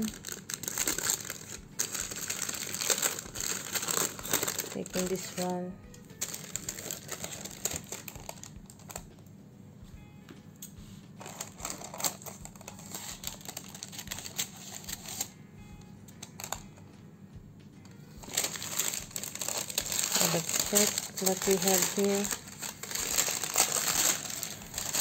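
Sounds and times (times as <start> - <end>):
wrapping paper rustling: 0.0 - 9.2, 11.2 - 15.3, 16.2 - 16.6, 18.2 - 25.0
faint background music: 0.0 - 25.0.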